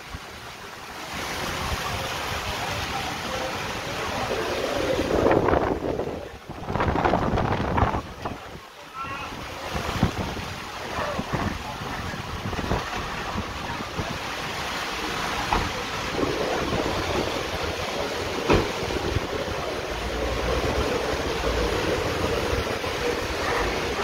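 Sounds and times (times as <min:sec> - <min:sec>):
heavy rain pouring: 0:00.0 - 0:24.0
wind gusting on microphone: 0:01.0 - 0:24.0.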